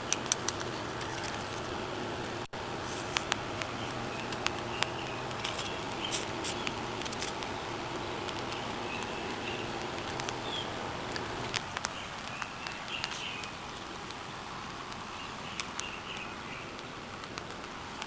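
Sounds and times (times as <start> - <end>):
steady outdoor hiss: 0.0 - 18.0
raindrops tapping on umbrella: 3.0 - 18.0.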